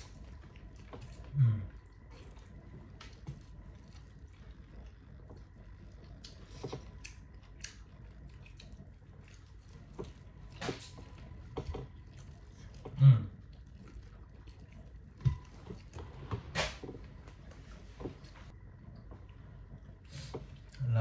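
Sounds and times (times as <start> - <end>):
person chewing: 0.0 - 18.3.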